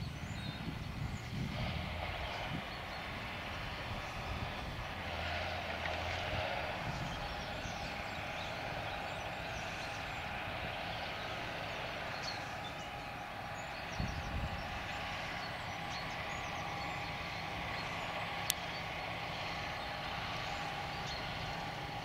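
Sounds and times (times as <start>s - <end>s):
distant tractor engine running: 0.0s - 22.0s.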